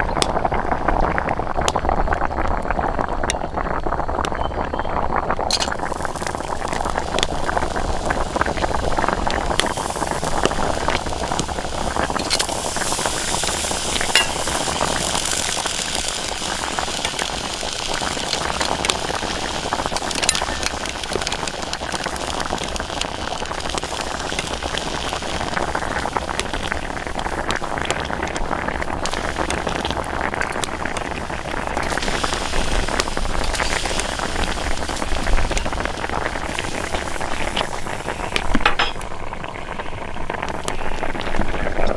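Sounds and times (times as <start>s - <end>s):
rice bubbling in a pot: 0.0s - 41.9s.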